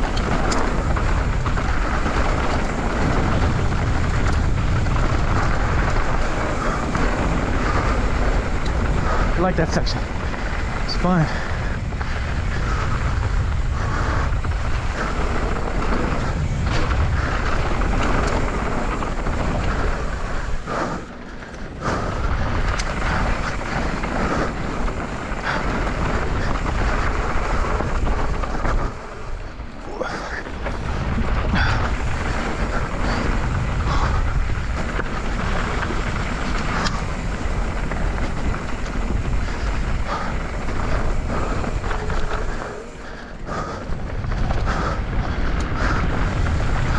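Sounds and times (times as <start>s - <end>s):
bike rattling: 0.0s - 46.9s
bike tyre noise: 0.0s - 46.9s
wind rushing over microphone: 0.0s - 46.9s.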